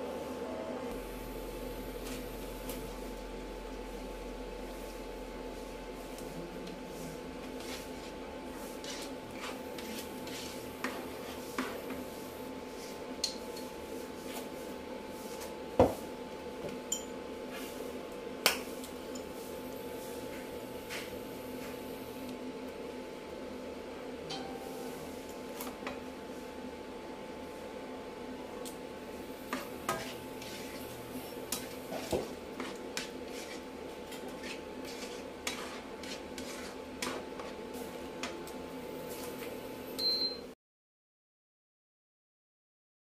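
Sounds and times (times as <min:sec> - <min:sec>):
steady background hum: 0:00.0 - 0:40.5.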